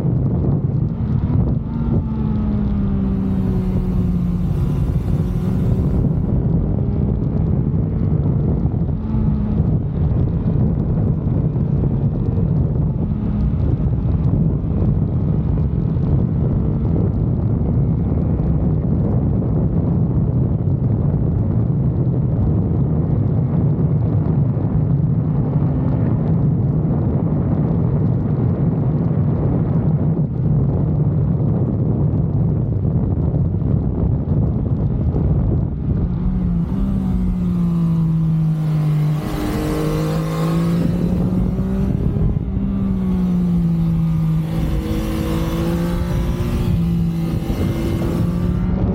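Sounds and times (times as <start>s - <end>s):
motorcycle engine and exhaust: 0.0s - 48.9s
wind noise: 0.0s - 48.9s.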